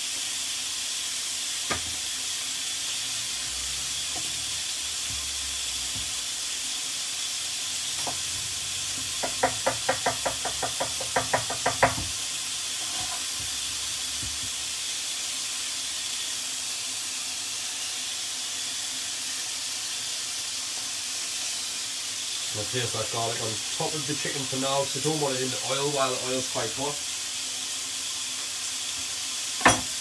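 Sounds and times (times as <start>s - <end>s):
chicken frying in hot oil: 0.0s - 30.0s.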